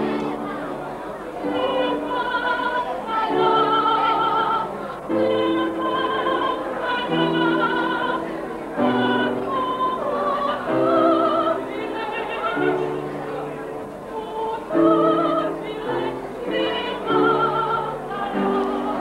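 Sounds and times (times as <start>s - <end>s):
piano chords: 0.0s - 19.0s
woman singing operatically: 1.4s - 13.4s, 14.1s - 19.0s.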